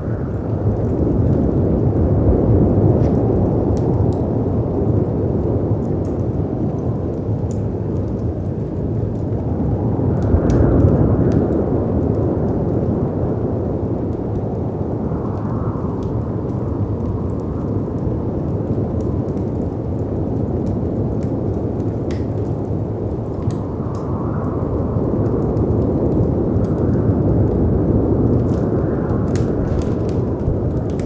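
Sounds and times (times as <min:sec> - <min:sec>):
fireplace crackles: 0:00.0 - 0:31.0
wind and sea rushing: 0:00.0 - 0:31.0.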